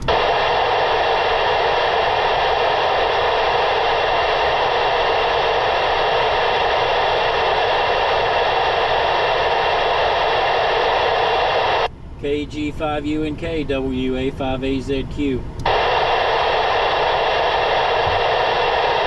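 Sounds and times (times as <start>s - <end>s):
radio static hiss: 0.0s - 13.4s, 14.0s - 19.0s.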